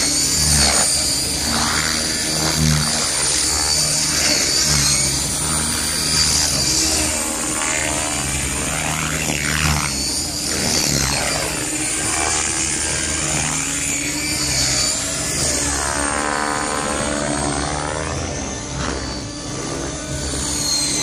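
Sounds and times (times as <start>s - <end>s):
rc helicopter motor whine: 0.0s - 21.0s.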